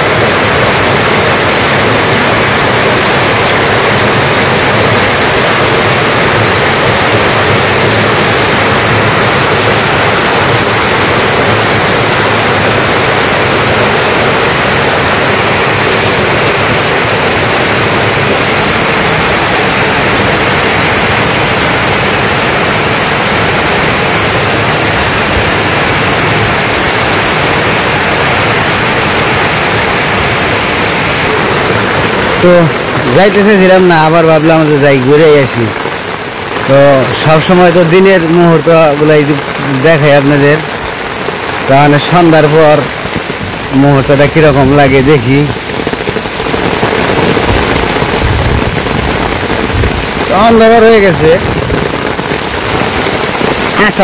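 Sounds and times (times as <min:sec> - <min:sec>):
heavy rain on tin roofs: 0:00.0 - 0:54.0
water streaming off roof: 0:00.0 - 0:54.0.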